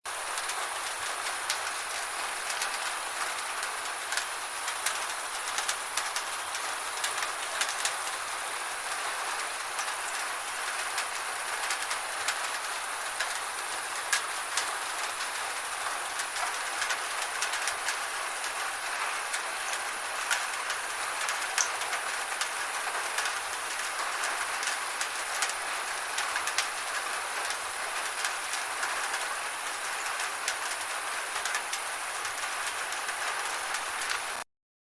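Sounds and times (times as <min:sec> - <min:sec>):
rain on a tin roof: 0:00.0 - 0:34.5.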